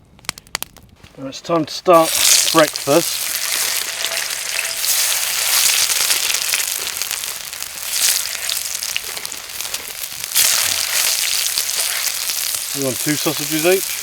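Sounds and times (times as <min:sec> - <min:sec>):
fat sizzling in a frying pan: 0:01.8 - 0:14.0.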